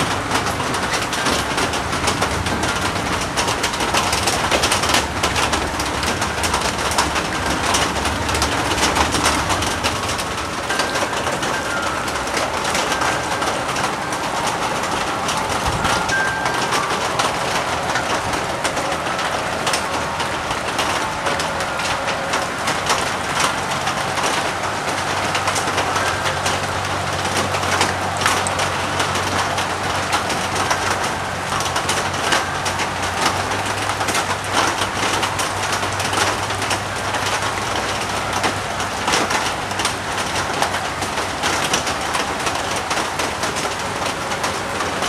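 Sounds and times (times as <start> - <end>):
heavy rain splashing on water: 0.0 - 45.0.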